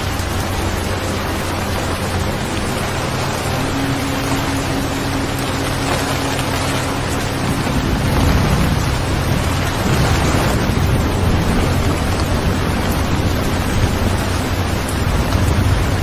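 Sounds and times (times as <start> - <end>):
deep rumble: 0.0 - 16.0
heavy rain: 0.0 - 16.0.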